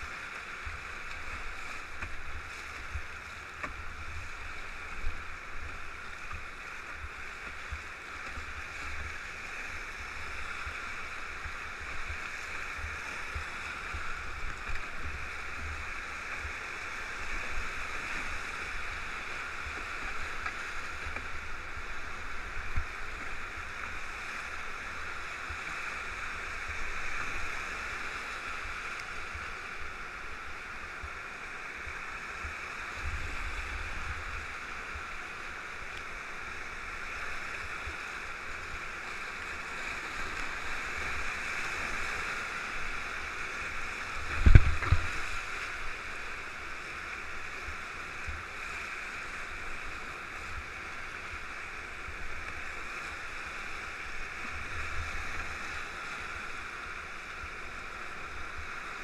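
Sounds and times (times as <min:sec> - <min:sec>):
water splashes: 0:00.0 - 0:59.0
whitewater rapids rushing: 0:00.0 - 0:59.0.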